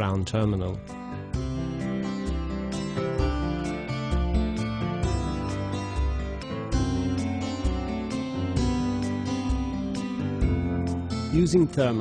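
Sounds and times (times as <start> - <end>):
guitar-led music with steady beat: 0.0 - 12.0.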